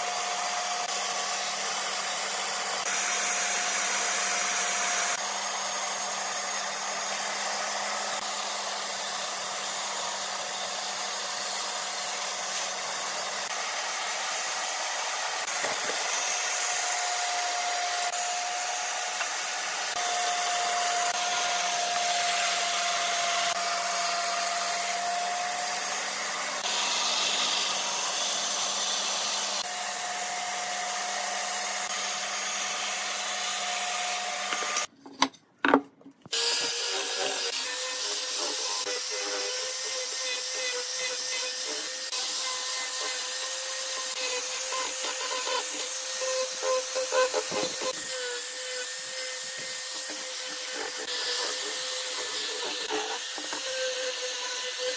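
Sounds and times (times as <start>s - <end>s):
bandsaw cutting wood: 0.0s - 34.9s, 36.3s - 54.9s.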